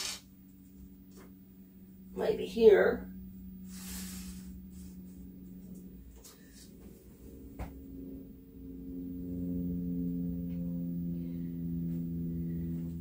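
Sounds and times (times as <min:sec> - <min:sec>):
low hum of held tones: 0:00.0 - 0:13.0.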